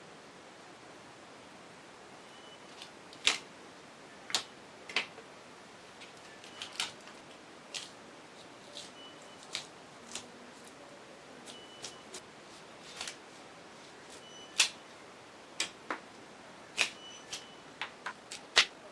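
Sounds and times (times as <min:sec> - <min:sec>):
faint steady hiss: 0:00.0 - 0:18.9.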